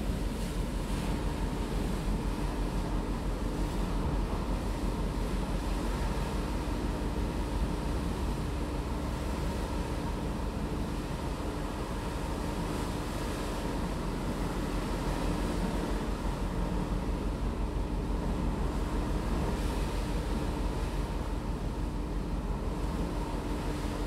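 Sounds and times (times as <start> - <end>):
rushing sea water: 0.0 - 24.0
wind: 0.0 - 24.0.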